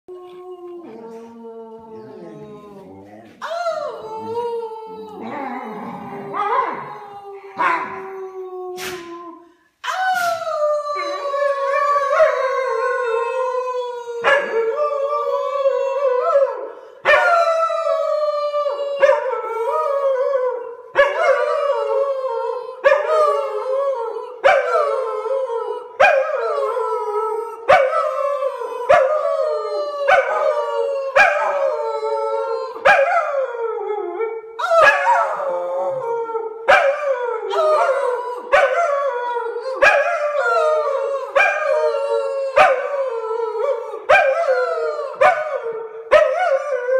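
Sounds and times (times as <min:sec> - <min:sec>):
dog howling: 0:00.1 - 0:46.9.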